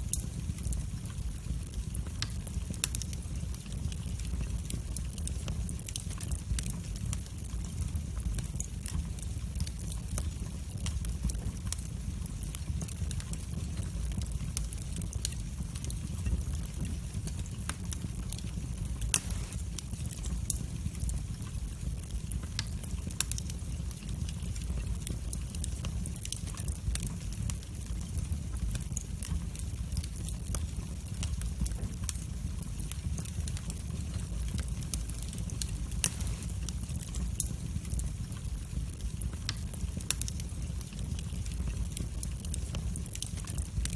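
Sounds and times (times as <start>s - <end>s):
fire crackles and pops: 0.0s - 43.9s
fire flames rumbling: 0.0s - 43.9s.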